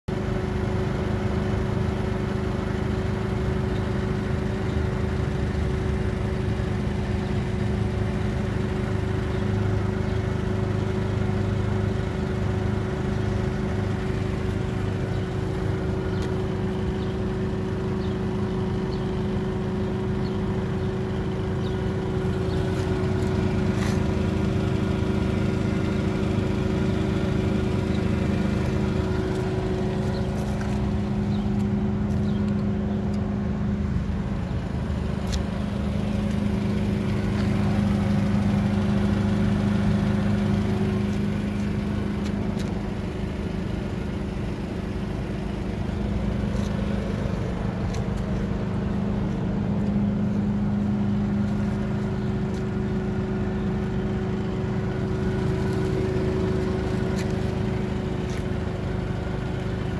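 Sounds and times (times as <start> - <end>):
vehicle engine droning: 0.1 - 59.9.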